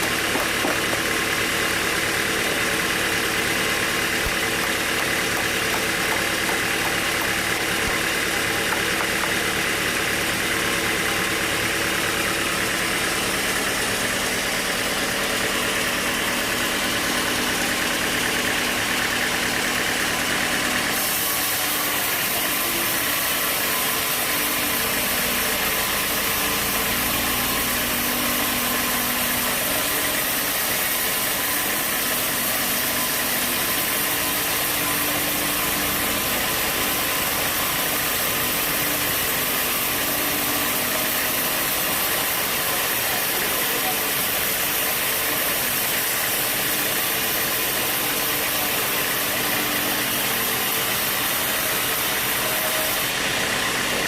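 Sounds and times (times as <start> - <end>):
sawmill machinery motor hum: 0.0 - 54.0.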